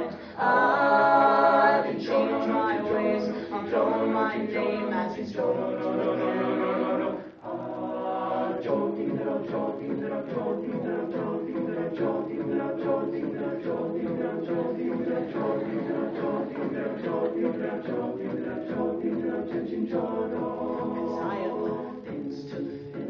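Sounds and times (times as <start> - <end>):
held vocal chords: 0.0 - 23.0
rhythmic sung syllables: 0.0 - 23.0.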